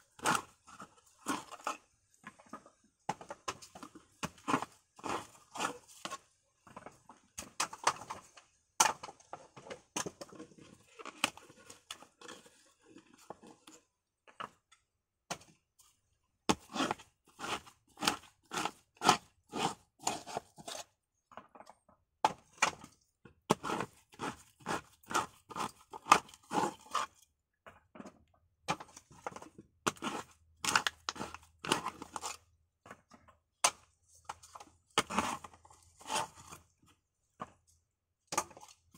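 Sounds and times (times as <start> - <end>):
coconut shell cracking and scraping: 0.1 - 6.8, 7.4 - 13.8, 16.5 - 27.4, 28.6 - 37.0, 38.3 - 38.9.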